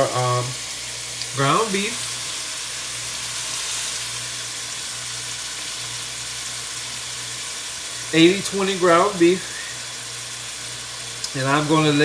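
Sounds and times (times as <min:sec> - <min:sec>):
ground beef sizzling in a pot: 0:00.0 - 0:12.0.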